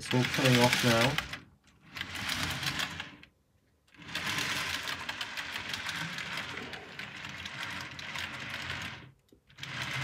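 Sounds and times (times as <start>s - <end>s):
model train rattling on track: 0.0s - 3.2s, 4.0s - 10.0s.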